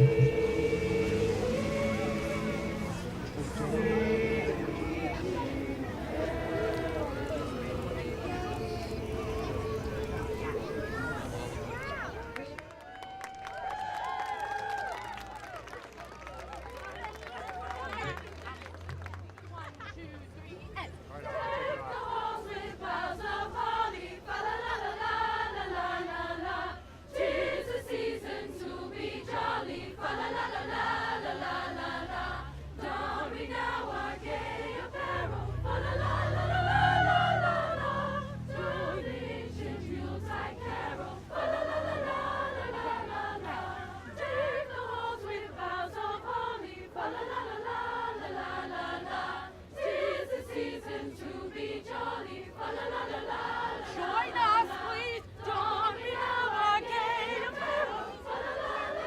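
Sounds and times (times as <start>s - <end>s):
choir singing: 0.0s - 12.2s, 21.1s - 59.0s.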